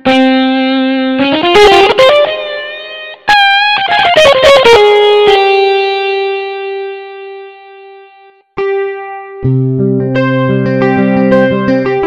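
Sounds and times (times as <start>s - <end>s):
keyboard distorted guitar lead: 0.0s - 12.0s.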